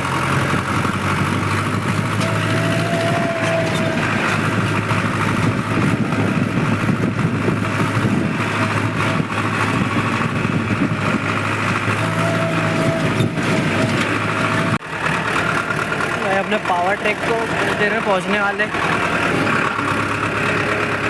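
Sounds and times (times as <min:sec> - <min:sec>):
tractor diesel engine running: 0:00.0 - 0:21.0
rattling noise: 0:00.2 - 0:21.0.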